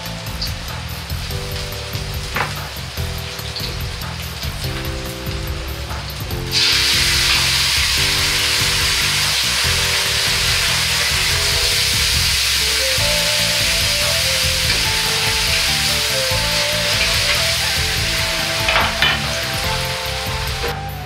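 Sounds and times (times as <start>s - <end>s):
sauce sizzling in a wok: 0.0s - 21.0s.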